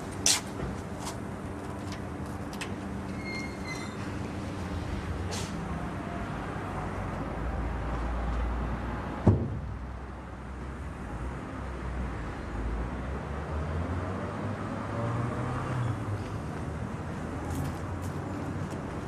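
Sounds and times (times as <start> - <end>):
street ambience rumble: 0.0 - 19.0.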